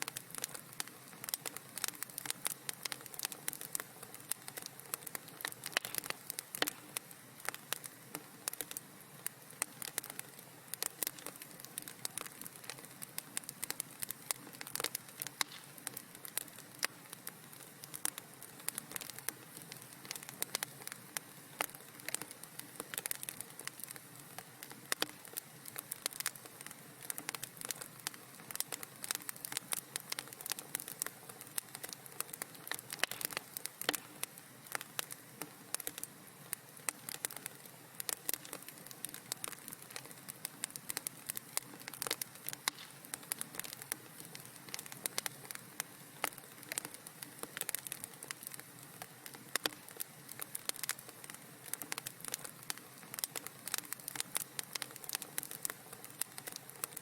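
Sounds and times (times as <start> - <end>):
fire hissing: 0.0 - 57.0
wood fire crackling: 0.0 - 57.0.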